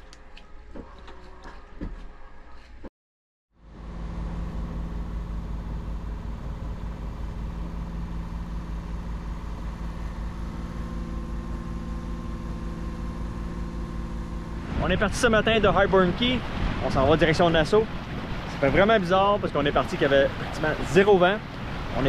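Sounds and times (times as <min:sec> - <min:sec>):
boat engine humming: 0:03.6 - 0:22.0.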